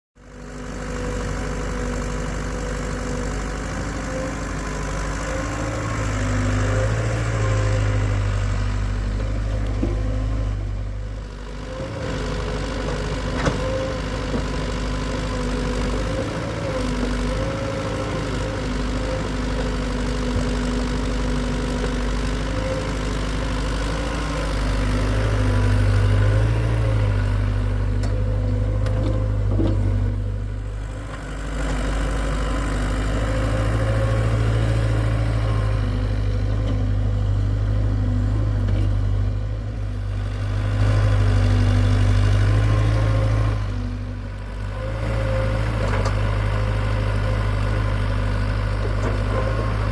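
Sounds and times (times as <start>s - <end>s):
excavator diesel engine running: 0.2s - 49.9s.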